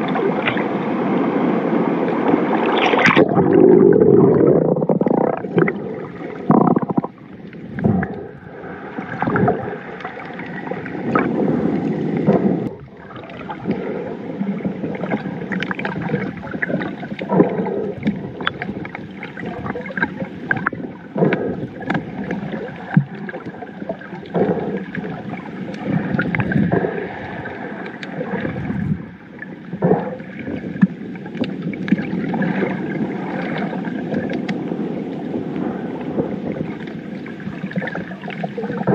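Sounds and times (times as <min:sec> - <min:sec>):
muffled underwater churning: 0:00.0 - 0:38.9.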